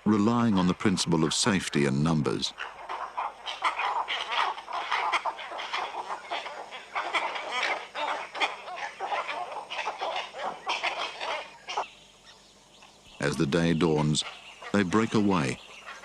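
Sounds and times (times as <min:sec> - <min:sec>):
flock of egrets calling: 0:00.0 - 0:16.0.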